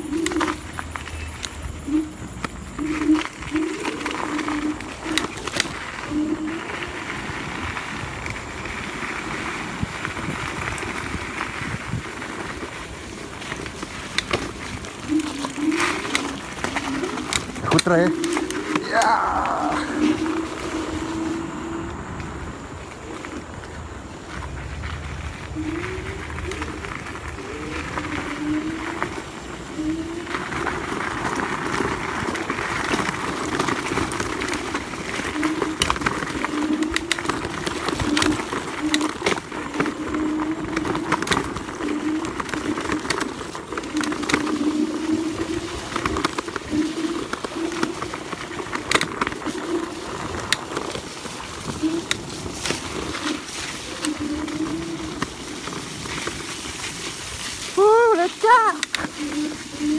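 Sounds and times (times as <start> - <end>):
electric scooter motor whining: 0.0 - 59.9
knocks and rattles on rough trail: 0.0 - 59.9.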